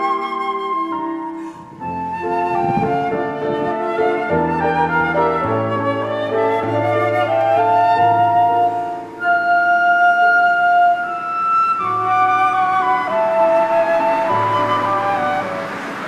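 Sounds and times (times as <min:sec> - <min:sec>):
flute melody: 0:00.0 - 0:16.0
low sustained accompaniment: 0:00.0 - 0:16.0.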